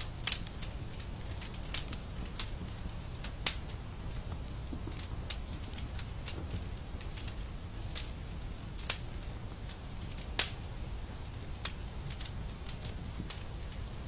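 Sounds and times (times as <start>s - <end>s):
sharp pops of fire: 0.0s - 14.0s
wood fire crackling: 0.0s - 14.0s.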